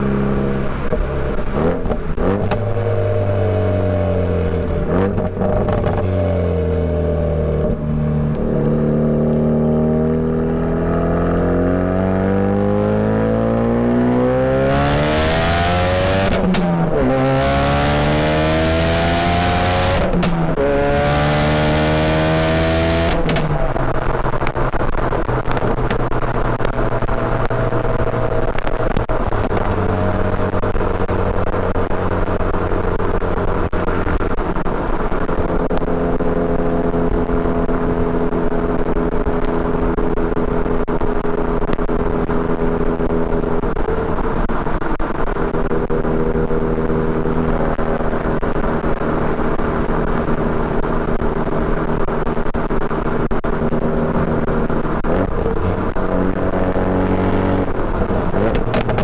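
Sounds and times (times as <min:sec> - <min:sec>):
exhaust crack: 0:00.0 - 0:11.0, 0:14.9 - 0:59.0
car engine accelerating: 0:00.0 - 0:59.0
steady exhaust note: 0:00.0 - 0:59.0.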